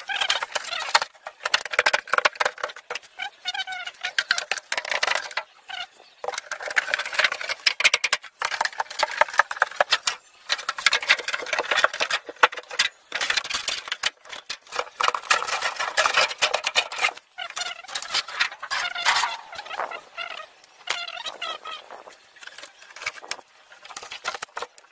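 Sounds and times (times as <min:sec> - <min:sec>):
thin metal sheet crackling: 0:00.0 - 0:24.9.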